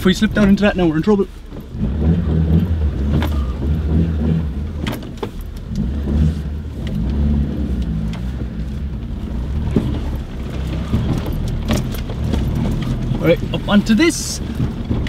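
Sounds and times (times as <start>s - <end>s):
car engine running at low speed: 0.0s - 15.0s
vehicle knocks and rattles: 0.0s - 15.0s.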